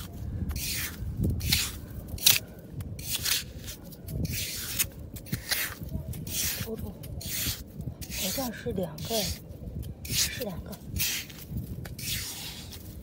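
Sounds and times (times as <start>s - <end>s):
metal shovel digging wet sand: 0.0s - 2.4s, 3.0s - 9.4s, 10.0s - 12.9s.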